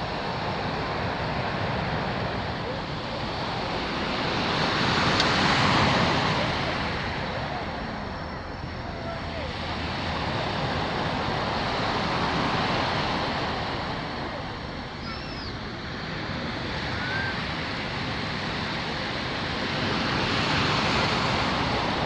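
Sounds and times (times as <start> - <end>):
surf washing onto beach: 0.0 - 22.0.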